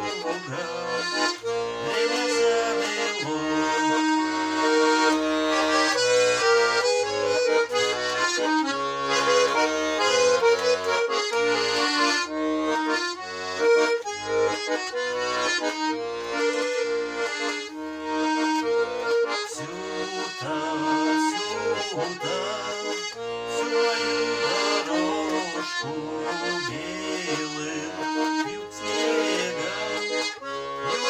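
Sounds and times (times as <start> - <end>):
accordion folk melody: 0.0 - 31.0.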